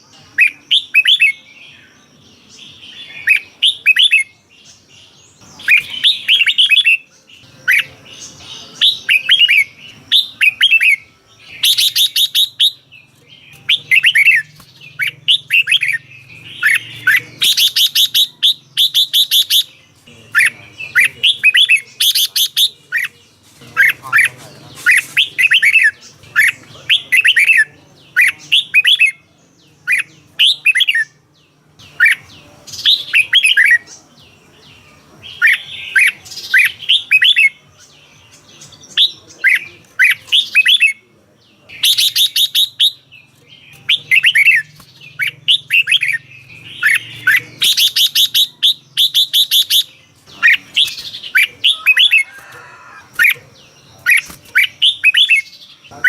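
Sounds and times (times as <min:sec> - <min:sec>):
bird rapid chattering: 0:00.0 - 0:01.4, 0:02.5 - 0:31.2, 0:31.8 - 0:34.2, 0:34.8 - 0:56.0
bird singing whistled notes: 0:00.0 - 0:23.2, 0:23.8 - 0:31.2, 0:31.8 - 0:56.0.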